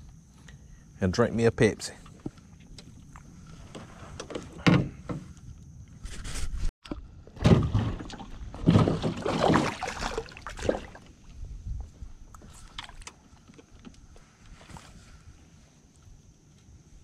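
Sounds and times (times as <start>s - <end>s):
bumps and rustling against canoe hull: 2.0s - 17.0s.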